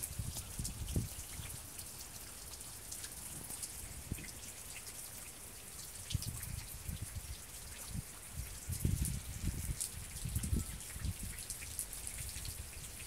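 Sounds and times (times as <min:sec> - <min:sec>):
raindrops pattering and ticking: 0:00.0 - 0:13.0
steady rain falling: 0:00.0 - 0:13.0.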